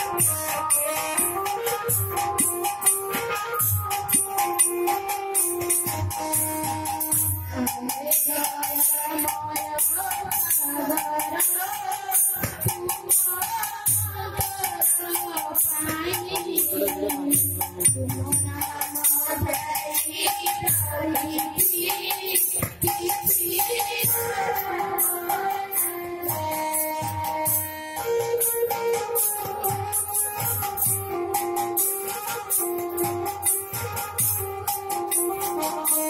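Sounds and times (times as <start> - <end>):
jingling rattle percussion: 0.0 - 36.0.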